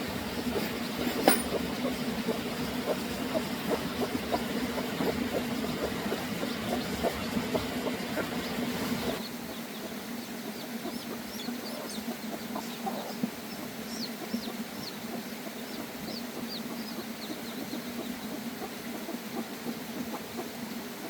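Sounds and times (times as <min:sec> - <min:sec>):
birds chirping: 0:00.0 - 0:20.9
steady low hum: 0:00.0 - 0:21.0.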